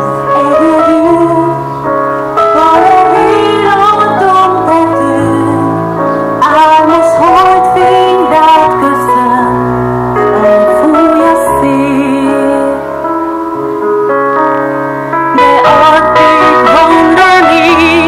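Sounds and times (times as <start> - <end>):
woman singing slow song: 0.0 - 1.8, 2.5 - 13.0, 15.3 - 18.0
piano accompaniment: 0.0 - 18.0.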